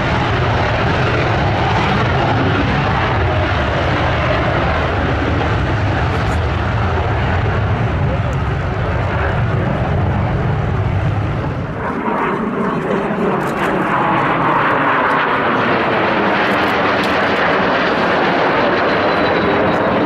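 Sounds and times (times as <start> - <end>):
jet fighters roaring overhead: 0.0 - 20.0.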